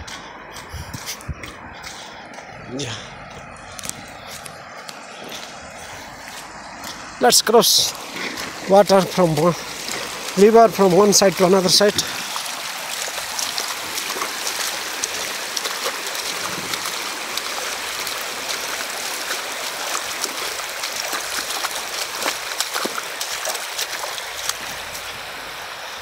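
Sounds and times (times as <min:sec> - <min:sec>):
feet splashing in water: 0:00.0 - 0:26.0
river water rushing over stones: 0:00.0 - 0:26.0.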